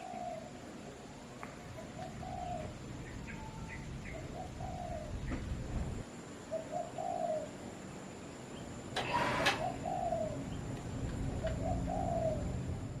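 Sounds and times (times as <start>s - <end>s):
dove cooing: 0.0s - 7.6s, 9.0s - 12.9s.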